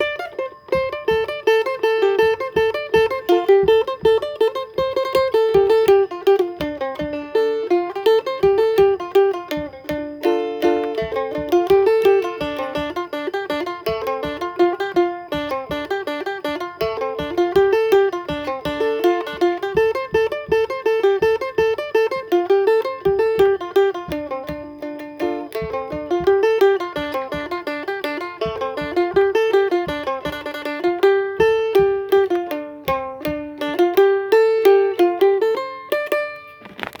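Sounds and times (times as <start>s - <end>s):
plucked lute melody: 0.0s - 37.0s.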